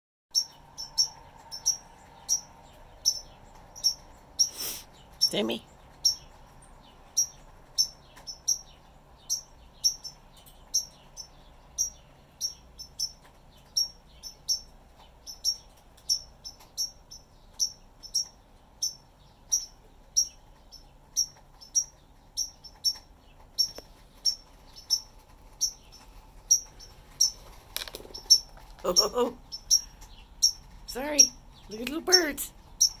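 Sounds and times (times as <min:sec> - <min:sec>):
small bird chirping: 0:00.3 - 0:33.0.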